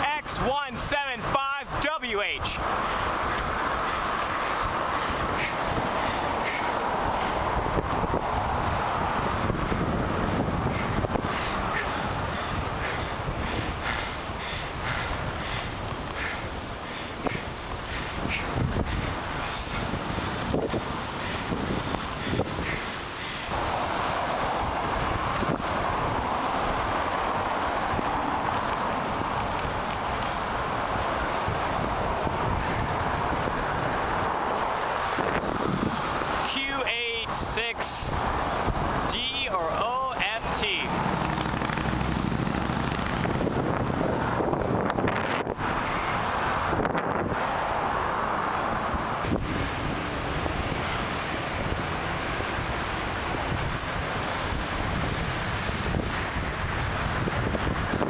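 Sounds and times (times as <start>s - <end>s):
road and traffic hiss: 0.0s - 58.0s
wind buffeting microphone: 2.4s - 39.8s, 40.4s - 58.0s.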